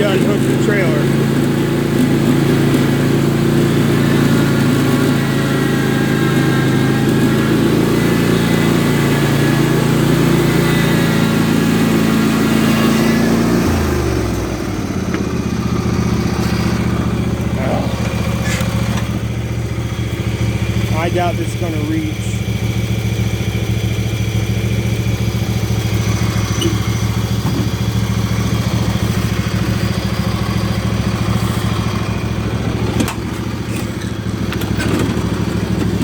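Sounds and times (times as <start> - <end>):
lawn mower engine running: 0.0 - 36.0.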